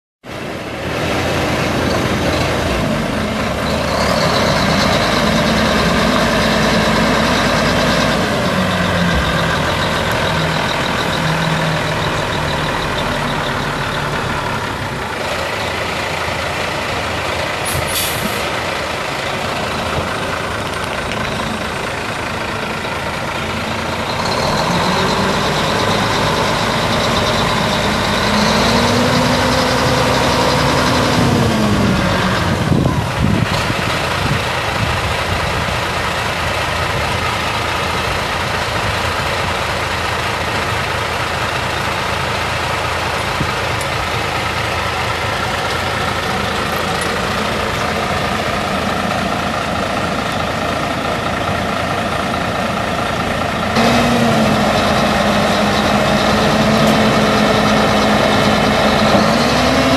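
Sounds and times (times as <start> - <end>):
diesel truck engine running: 0.3 - 59.9.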